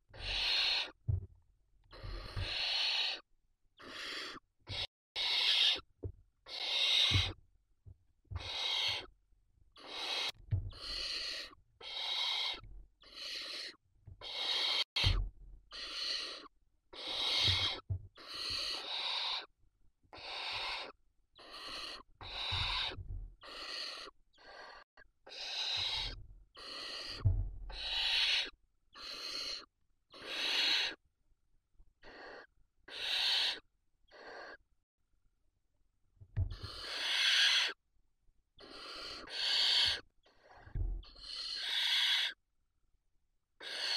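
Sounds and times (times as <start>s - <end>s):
owl chicks hissing: 0.1s - 1.0s, 1.8s - 5.8s, 6.4s - 7.4s, 8.4s - 9.1s, 9.8s - 19.5s, 20.1s - 31.0s, 32.0s - 34.6s, 36.5s - 37.8s, 38.6s - 42.4s, 43.6s - 43.9s.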